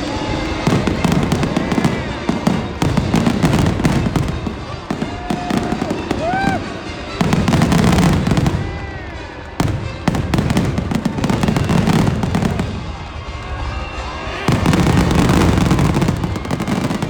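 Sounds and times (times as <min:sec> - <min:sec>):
fireworks booming and crackling: 0:00.0 - 0:17.0.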